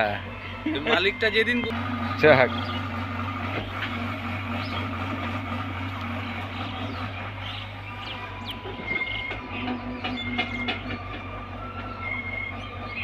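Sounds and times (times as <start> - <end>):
excavator diesel engine running: 0.0 - 13.0
excavator digging earth: 1.6 - 13.0.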